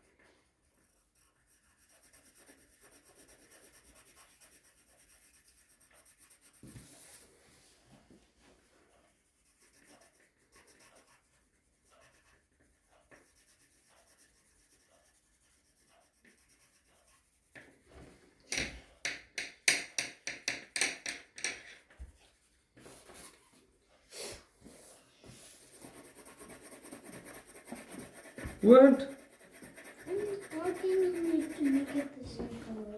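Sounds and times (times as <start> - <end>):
pencil scratching on paper: 0.0 - 7.8, 8.4 - 32.9.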